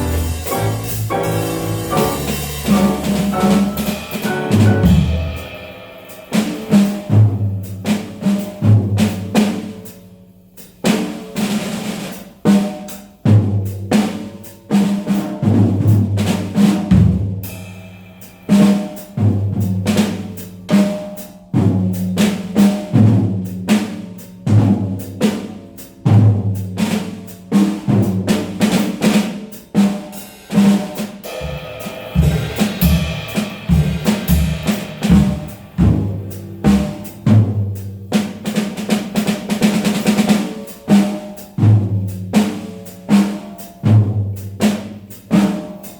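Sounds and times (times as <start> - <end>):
jazz drum kit playing: 0.0 - 45.9.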